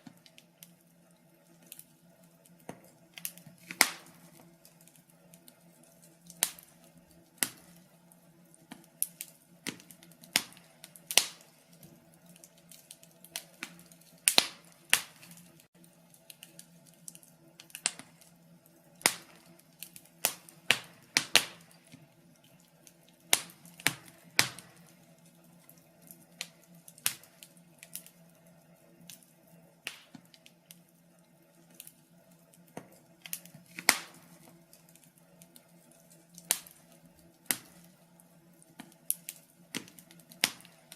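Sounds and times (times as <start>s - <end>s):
faint steady hum: 0.0s - 40.9s
wood fire crackling: 0.0s - 40.9s.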